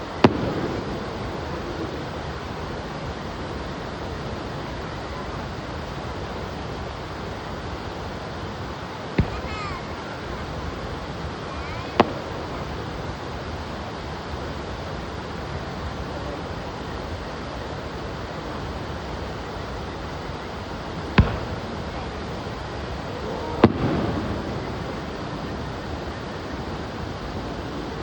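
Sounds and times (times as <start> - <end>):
firework bursts: 0.0 - 28.0
steady rushing noise: 0.0 - 28.0.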